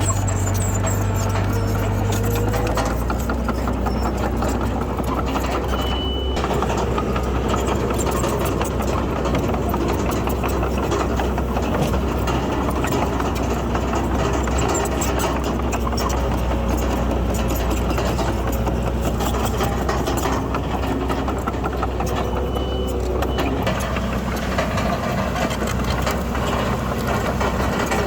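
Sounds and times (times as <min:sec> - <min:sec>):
clanking and rattling: 0:00.0 - 0:28.0
heavy machinery diesel engine: 0:00.0 - 0:28.0.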